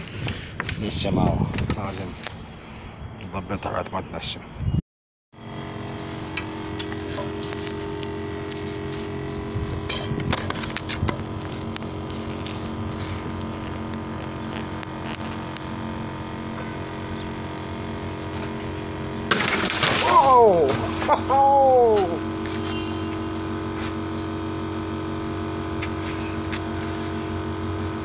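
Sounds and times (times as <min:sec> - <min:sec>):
small pump humming: 0:05.4 - 0:28.0.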